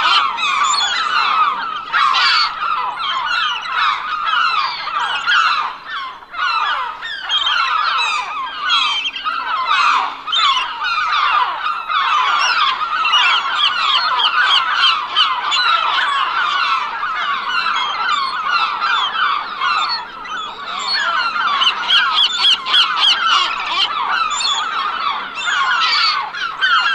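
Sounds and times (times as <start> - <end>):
gulls calling: 0.0 - 26.9.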